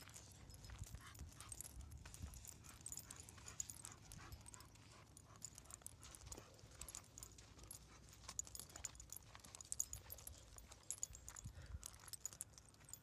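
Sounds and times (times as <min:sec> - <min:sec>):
puppy paws scuffing on gravel: 0:00.0 - 0:13.0.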